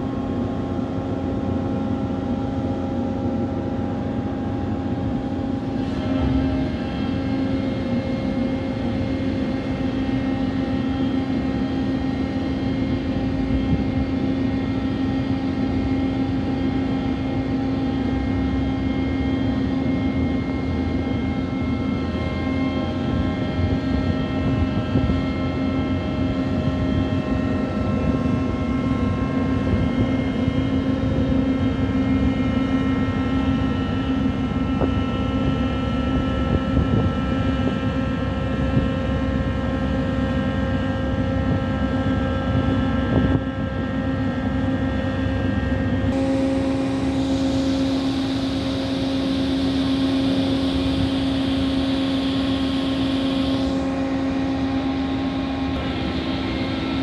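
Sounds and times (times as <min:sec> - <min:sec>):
crane machinery droning: 0:00.0 - 0:57.0.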